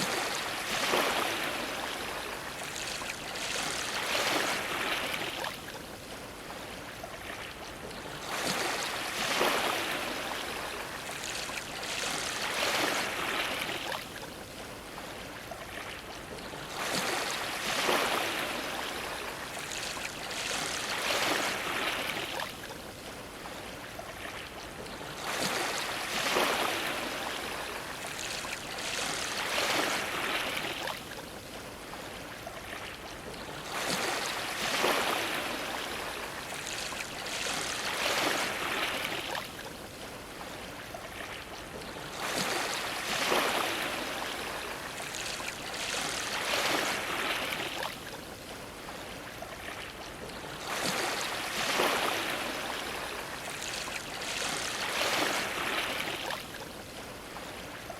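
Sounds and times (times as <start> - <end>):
waves splashing against a dock: 0.0 - 57.9.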